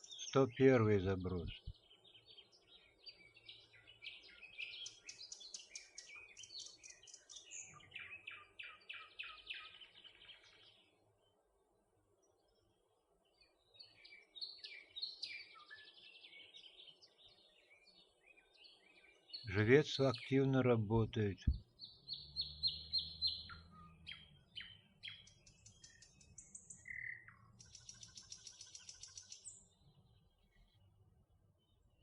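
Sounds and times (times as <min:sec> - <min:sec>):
faint songbirds chirping: 0:00.0 - 0:32.0.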